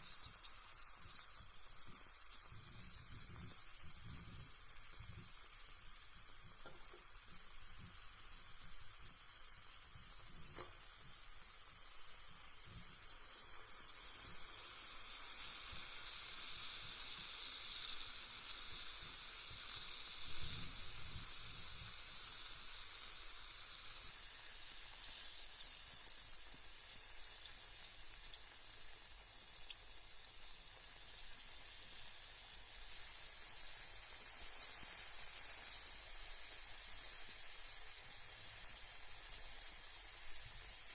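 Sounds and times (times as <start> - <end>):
bath bomb fizzing: 0.0 - 40.9.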